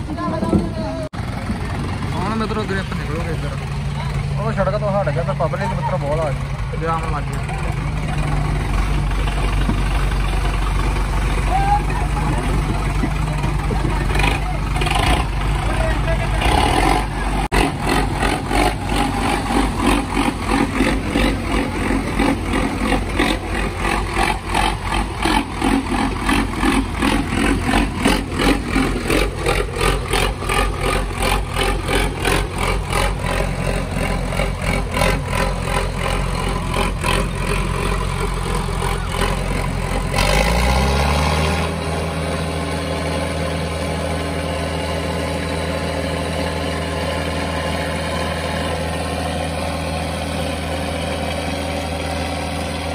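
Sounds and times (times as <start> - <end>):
tractor diesel engine cranking: 0.0 - 52.9
tractor engine idling: 0.0 - 52.9.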